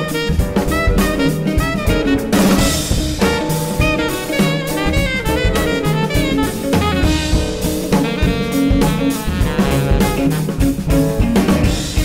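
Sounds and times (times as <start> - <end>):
drum kit: 0.0 - 12.0
jazz ensemble playing: 0.0 - 12.0.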